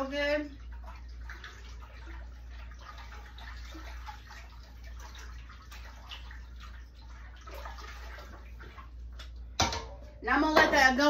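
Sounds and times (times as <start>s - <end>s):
liquid sloshing in a pot: 0.0s - 11.0s.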